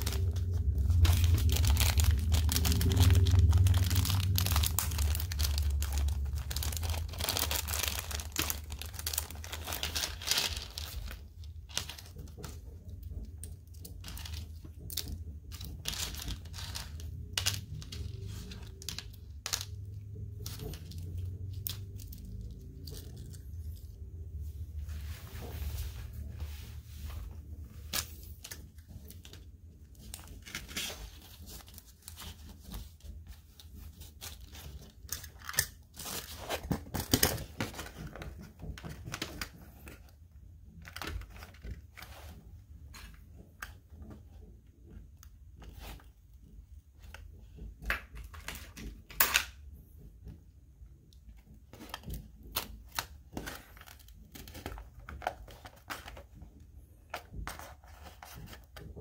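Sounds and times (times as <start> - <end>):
cardboard and tape crinkling: 0.0 - 24.4, 25.2 - 46.4, 51.4 - 59.0.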